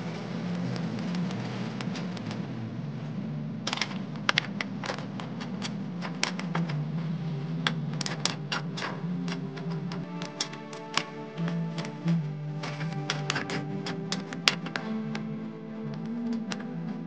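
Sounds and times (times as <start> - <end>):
broth boiling: 0.0 - 17.0.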